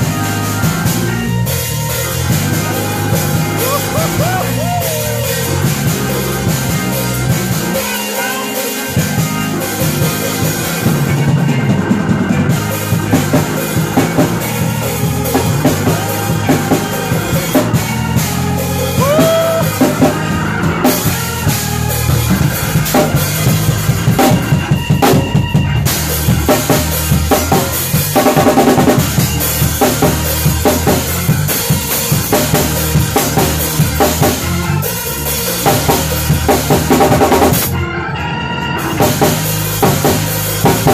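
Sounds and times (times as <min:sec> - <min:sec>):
drum kit: 0:00.0 - 0:37.8, 0:38.5 - 0:40.9
live band jamming: 0:00.0 - 0:40.9.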